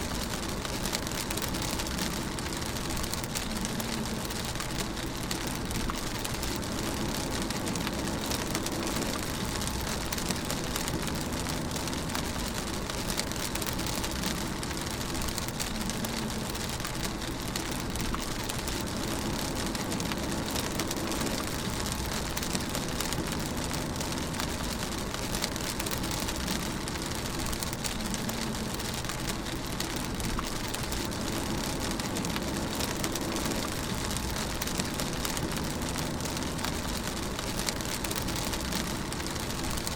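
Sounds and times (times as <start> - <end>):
rain hitting car roof: 0.0 - 39.9
tyres and engine rumble: 0.0 - 39.9.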